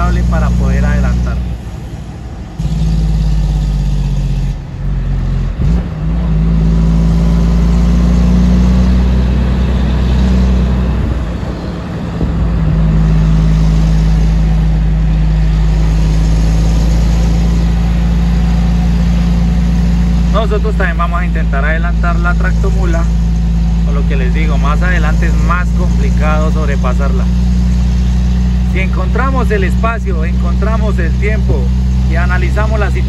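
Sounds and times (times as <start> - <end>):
diesel truck engine pulling: 0.0 - 33.0.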